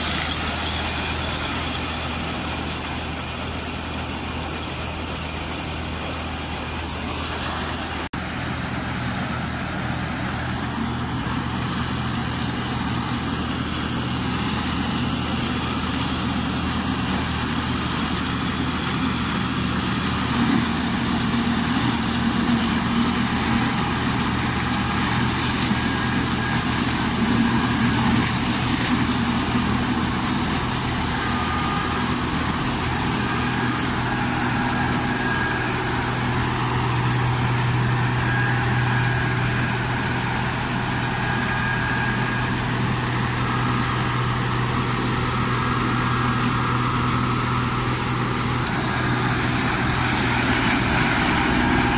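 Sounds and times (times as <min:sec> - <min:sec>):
combine harvester engine hum: 0:00.0 - 0:51.9.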